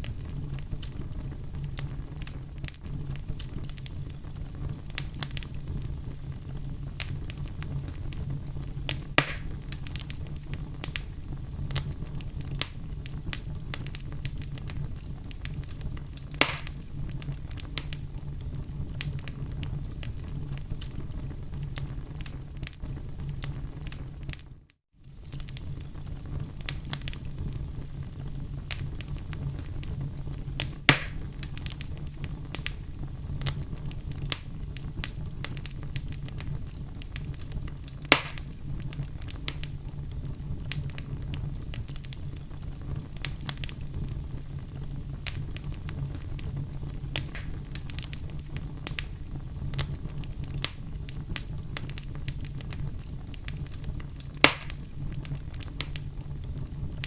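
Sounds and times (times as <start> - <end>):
fire sharp pops: 0.0 - 57.0
wood fire crackling: 0.0 - 57.0.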